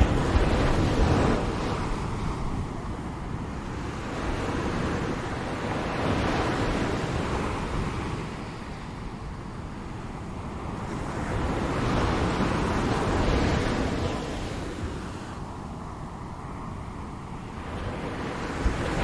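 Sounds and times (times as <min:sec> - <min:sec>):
ocean waves washing ashore: 0:00.0 - 0:19.0.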